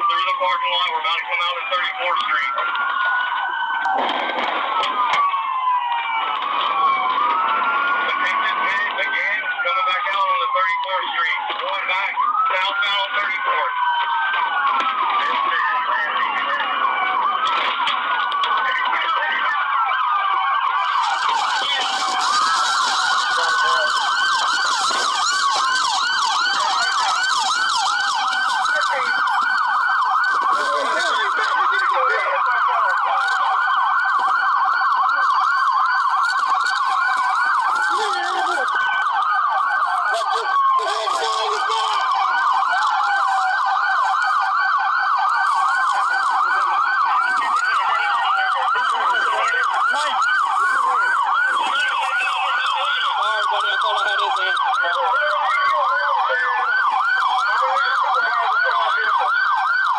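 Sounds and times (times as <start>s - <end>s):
police sirens wailing and yelping: 0.0s - 59.9s.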